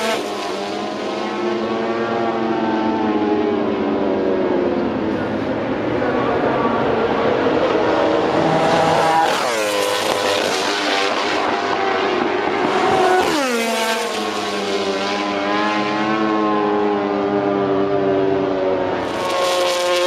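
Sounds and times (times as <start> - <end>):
racing motorcycle engine: 0.0 - 20.0.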